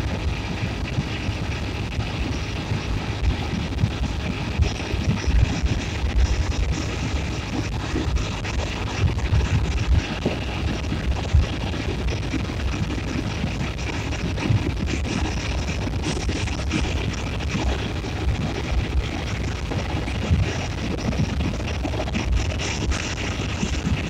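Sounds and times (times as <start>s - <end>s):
motorcycle road noise: 0.0s - 24.0s
wind buffeting the microphone: 0.0s - 24.0s.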